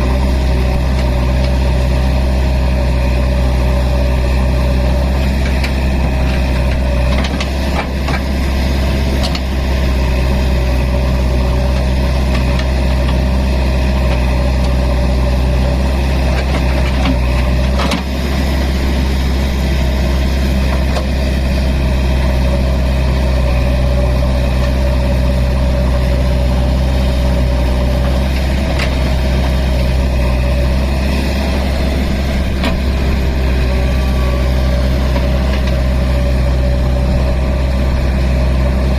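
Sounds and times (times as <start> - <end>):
diesel tractor engine idling: 0.0 - 38.9.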